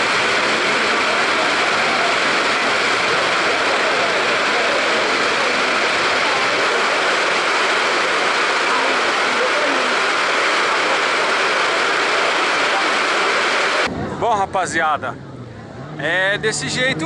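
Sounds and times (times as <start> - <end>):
heavy rain on metal roof: 0.0 - 13.9.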